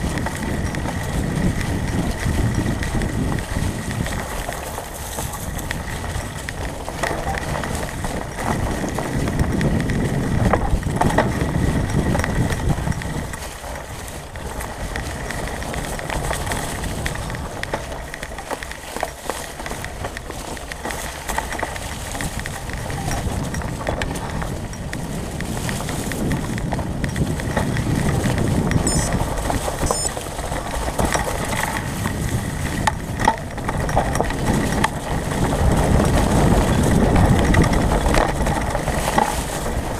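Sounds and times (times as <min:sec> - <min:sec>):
bike rattling over bumps: 0:00.0 - 0:39.9
bike tires rolling: 0:00.0 - 0:39.9.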